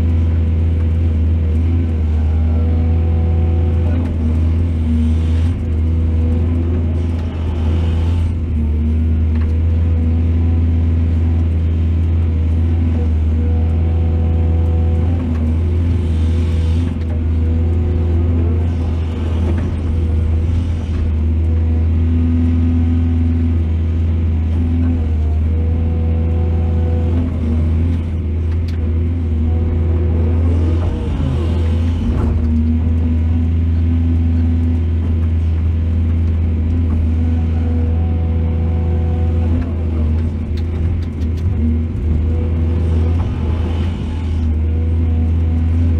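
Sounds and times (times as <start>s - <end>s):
heavy diesel engine drone: 0.0s - 45.9s.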